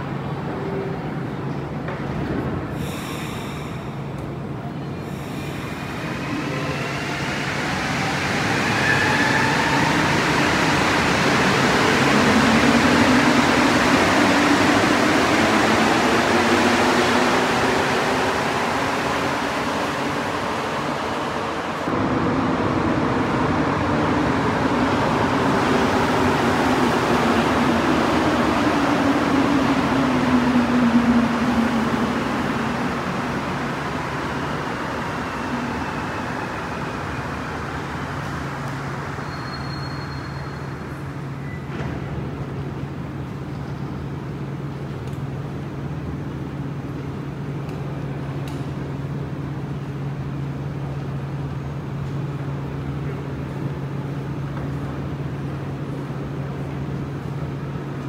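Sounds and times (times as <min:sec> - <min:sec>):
second train slowing whine: 0:00.0 - 0:58.0.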